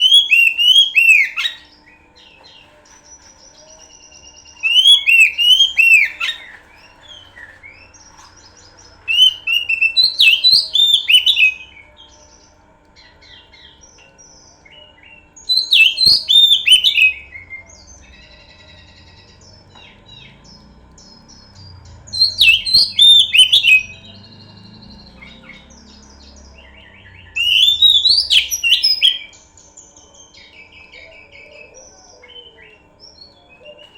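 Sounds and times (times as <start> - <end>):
bird singing whistled phrases: 0.0 - 1.9, 3.5 - 8.0, 9.1 - 12.4, 13.3 - 33.9
soft bird chirps and twitters: 0.0 - 33.9.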